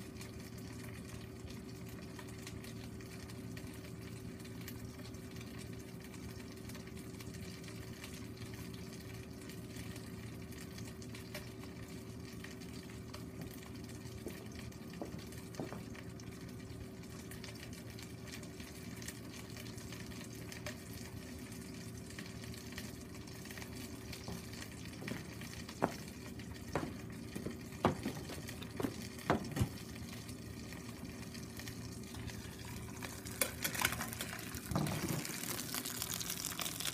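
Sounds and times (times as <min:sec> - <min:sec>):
chicken sizzling in oil: 0:00.0 - 0:36.9.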